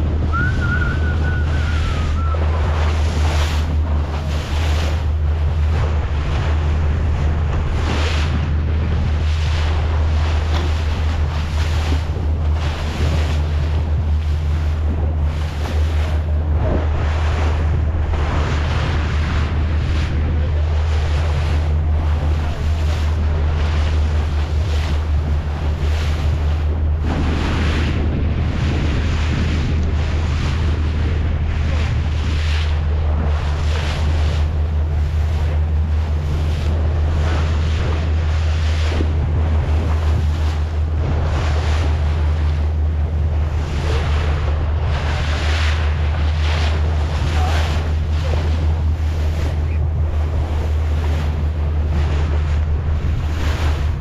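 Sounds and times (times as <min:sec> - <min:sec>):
boat engine humming: 0:00.0 - 0:54.0
water rushing past hull: 0:00.0 - 0:54.0
wind buffeting microphone: 0:00.0 - 0:54.0.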